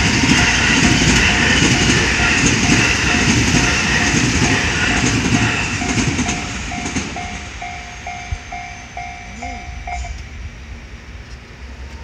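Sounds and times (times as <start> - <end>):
level crossing warning bell: 0.0 - 10.4
train wheels rumbling on rails: 0.0 - 12.0.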